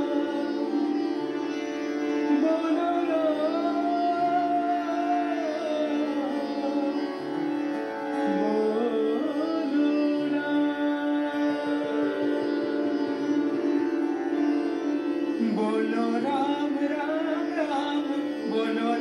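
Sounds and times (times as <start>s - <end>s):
man singing melodic line: 0.0s - 1.2s, 2.3s - 7.4s, 8.1s - 14.7s, 15.3s - 19.0s
harmonium and tanpura drone: 0.0s - 19.0s.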